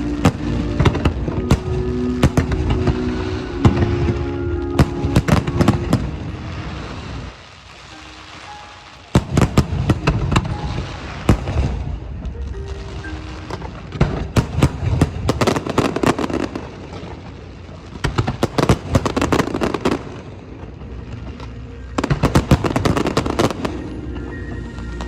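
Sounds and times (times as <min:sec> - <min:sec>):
fireworks bangs and crackling: 0:00.0 - 0:24.4.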